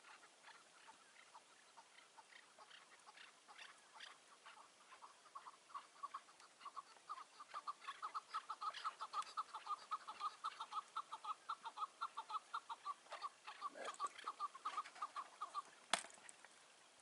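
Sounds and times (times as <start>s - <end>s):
partridge clucking call: 0.0s - 16.5s.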